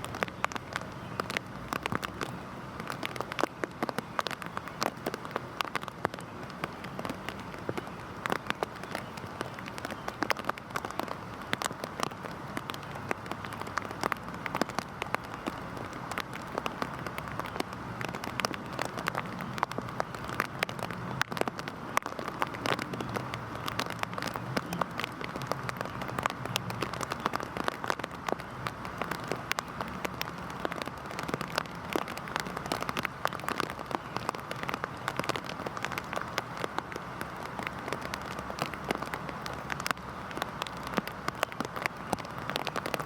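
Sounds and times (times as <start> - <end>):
heavy rain falling: 0.0 - 43.0
raindrops hitting hard surface: 0.0 - 43.0.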